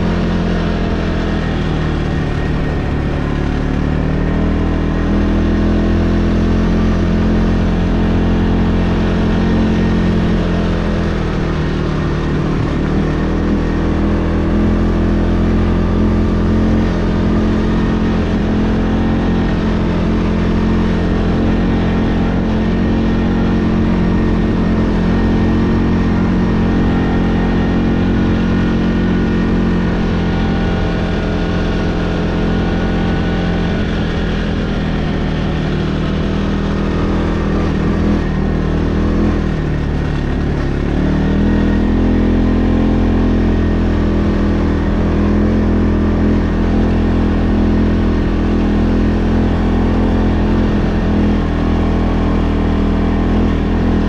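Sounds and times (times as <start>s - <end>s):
low rumble: 0.0s - 54.0s
vehicle engine running: 0.0s - 54.0s.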